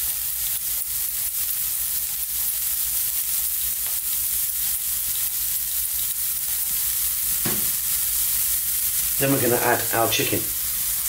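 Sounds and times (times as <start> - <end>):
onion and garlic frying in oil: 0.0 - 11.0.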